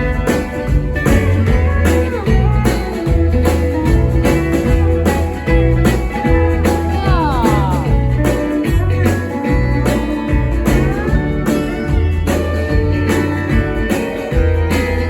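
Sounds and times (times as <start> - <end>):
bass and drum beat: 0.0 - 15.0
plucked string instruments: 0.0 - 15.0.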